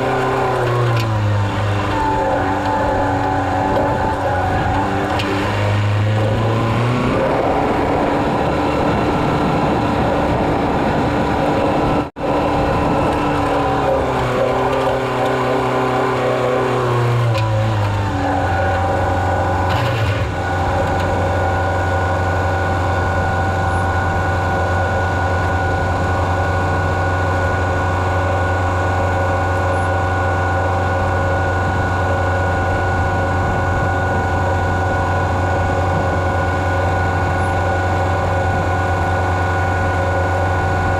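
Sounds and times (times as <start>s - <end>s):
heavy vehicle engine under load: 0.0s - 40.9s.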